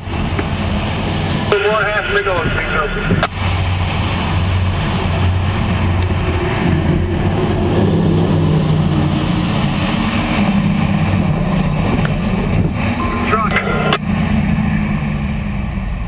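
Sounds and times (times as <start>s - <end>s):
car engine hum inside cabin: 0.0s - 16.0s
road noise: 0.0s - 16.0s.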